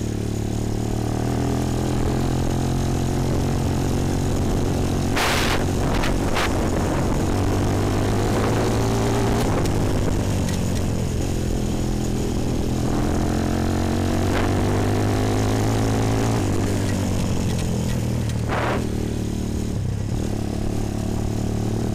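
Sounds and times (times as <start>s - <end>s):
quad bike engine running: 0.0s - 21.9s.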